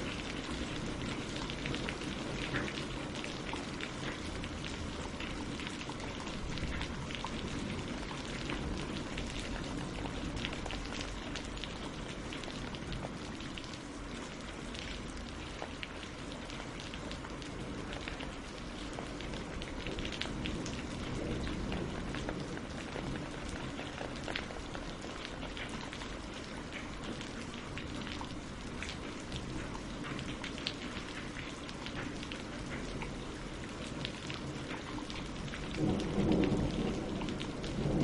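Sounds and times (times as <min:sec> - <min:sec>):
rain on leaves and water: 0:00.0 - 0:38.0.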